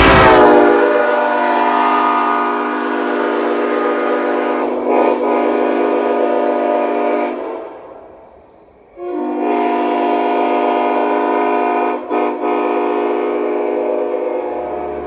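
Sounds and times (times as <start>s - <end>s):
train air horn chord: 0.0s - 8.2s, 9.0s - 15.0s.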